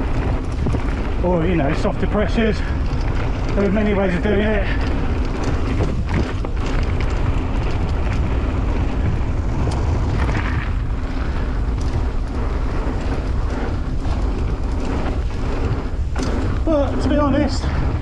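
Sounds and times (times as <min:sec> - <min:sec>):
bike clattering: 0:00.0 - 0:18.0
tyres rolling on dirt: 0:00.0 - 0:18.0
wind rumbling over microphone: 0:00.0 - 0:18.0.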